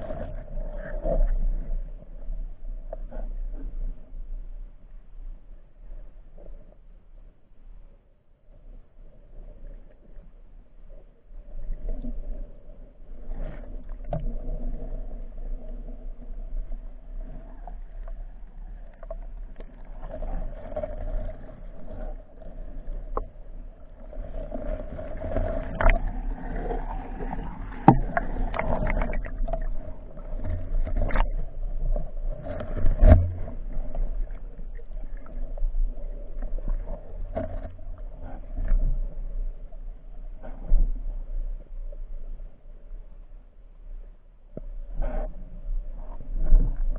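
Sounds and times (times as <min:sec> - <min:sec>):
water sloshing and gurgling: 0:00.0 - 0:07.4, 0:08.4 - 0:46.9
muffled underwater rumble: 0:00.0 - 0:46.9.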